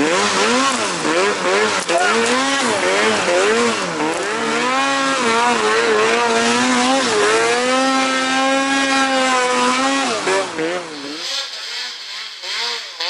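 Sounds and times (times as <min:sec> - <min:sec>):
snowmobile two-stroke engine: 0:00.0 - 0:13.0.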